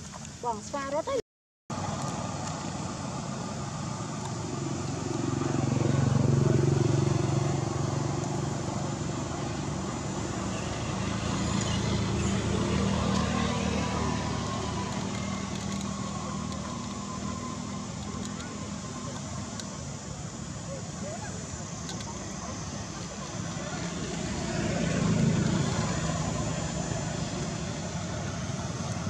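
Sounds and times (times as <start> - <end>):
vehicle engine running: 1.7 - 29.0.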